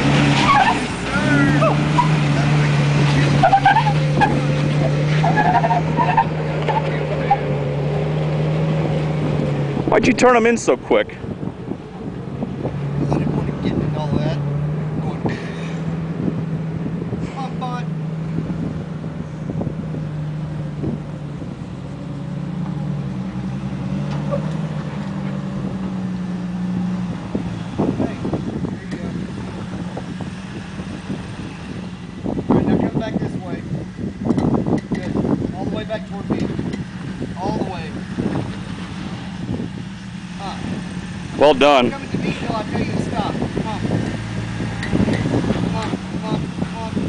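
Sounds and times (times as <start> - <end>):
car engine running at low revs: 0.0 - 47.0.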